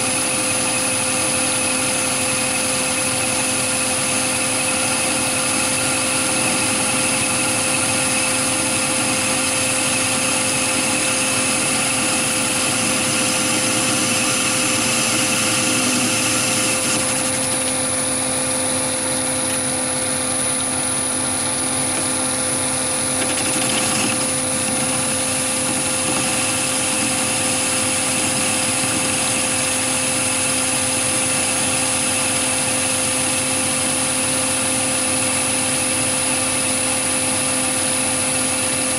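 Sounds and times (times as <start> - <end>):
lathe motor whine: 0.0 - 38.9
lathe tool cutting steel: 0.0 - 38.9.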